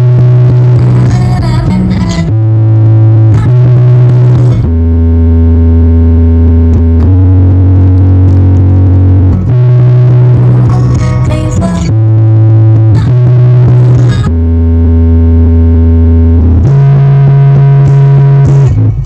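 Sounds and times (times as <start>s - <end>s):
distorted synthesizer music: 0.0s - 19.0s.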